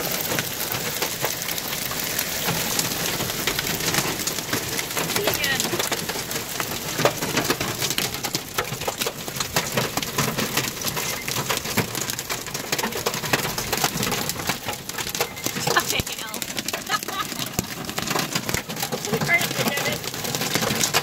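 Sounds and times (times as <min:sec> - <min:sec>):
heavy rain pelting car roof: 0:00.0 - 0:21.0.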